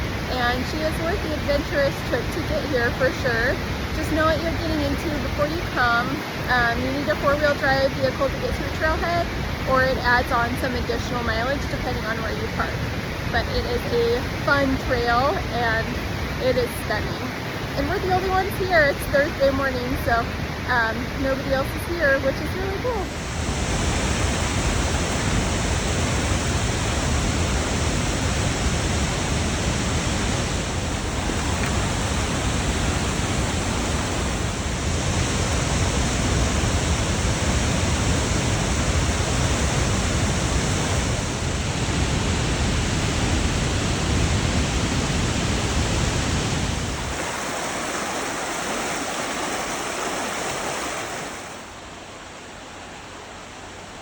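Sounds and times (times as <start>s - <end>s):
deep waterfall rumble: 0.0s - 54.0s
waterfall roaring: 0.0s - 54.0s.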